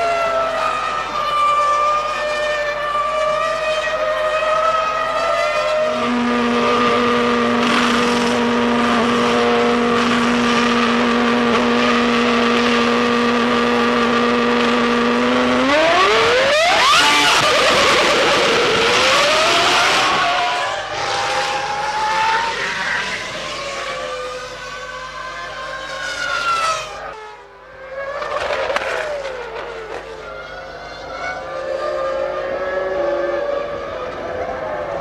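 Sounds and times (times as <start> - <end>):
racing car engines at high revs: 0.0 - 35.0.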